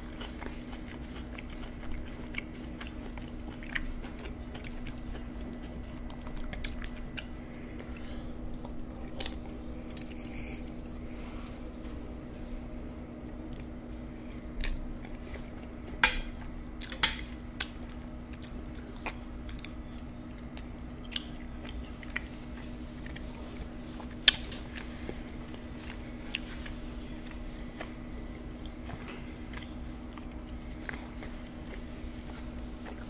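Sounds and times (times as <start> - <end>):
wet chewing: 0.0 - 11.6, 13.2 - 33.0.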